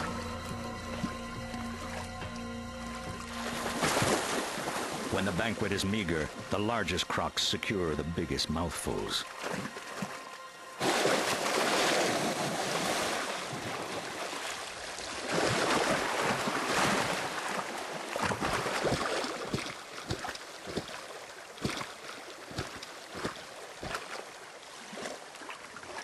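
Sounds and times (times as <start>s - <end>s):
water splashing and churning: 0.0s - 26.0s.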